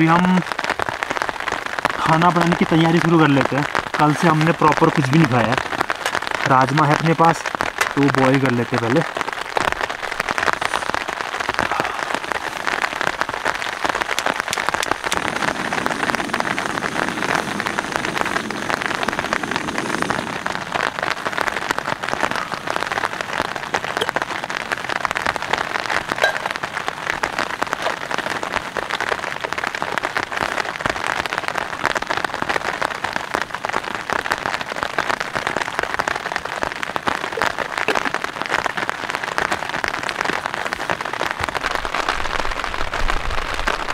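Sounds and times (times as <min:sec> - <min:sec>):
rain patter on tent and grass: 0:00.0 - 0:43.9.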